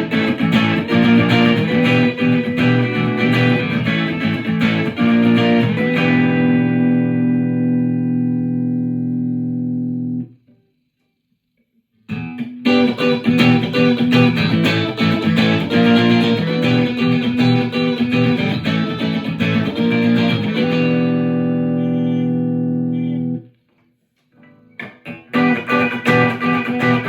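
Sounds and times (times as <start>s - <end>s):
electric guitar playing: 0.0s - 10.4s, 12.1s - 23.5s, 24.4s - 27.0s.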